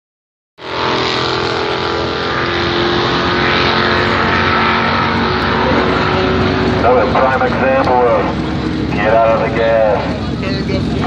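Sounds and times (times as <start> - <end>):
drag racing car engines: 0.6 - 11.0.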